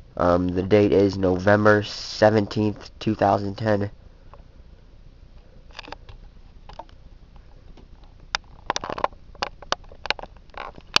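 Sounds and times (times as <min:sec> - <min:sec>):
low steady background noise: 0:00.0 - 0:11.0.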